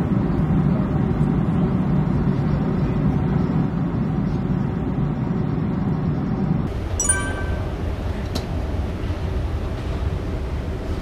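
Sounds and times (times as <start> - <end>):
jet engines rumbling in cabin: 0.0 - 11.0.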